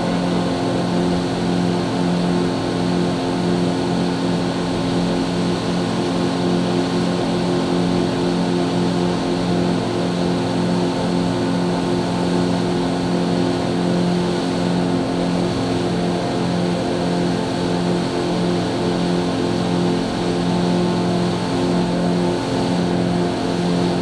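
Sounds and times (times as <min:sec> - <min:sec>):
outboard motor running: 0:00.0 - 0:24.0
wind: 0:00.0 - 0:24.0.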